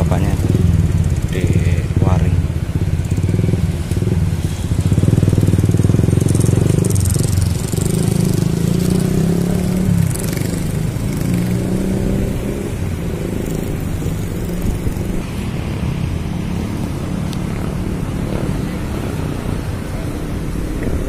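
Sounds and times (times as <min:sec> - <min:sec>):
engine running with low pulsing: 0:00.0 - 0:21.0.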